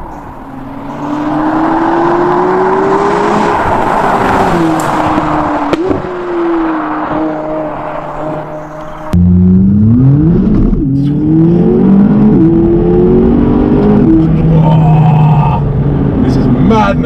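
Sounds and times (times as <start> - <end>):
car engine accelerating: 0.4 - 17.0.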